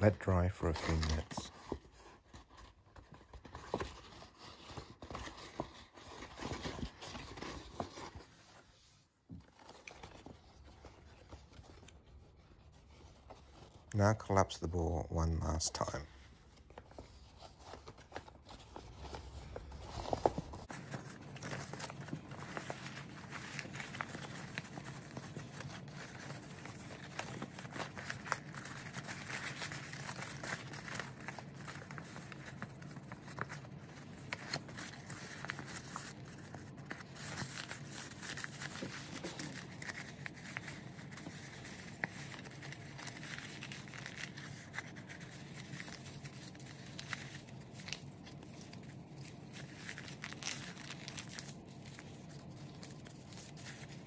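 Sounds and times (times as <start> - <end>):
paper crinkling and crackling: 0.0 - 54.0.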